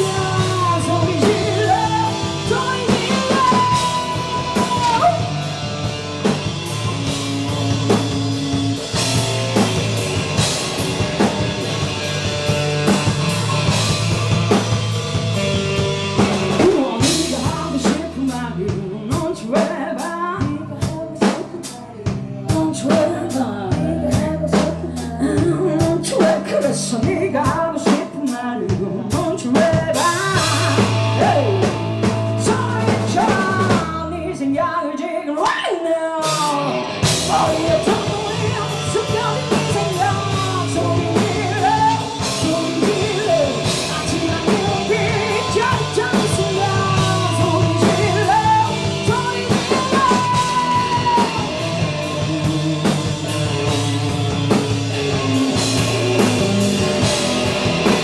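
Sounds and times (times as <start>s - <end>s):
female lead vocal: 0.0s - 5.5s, 16.5s - 58.0s
live rock band playing: 0.0s - 58.0s.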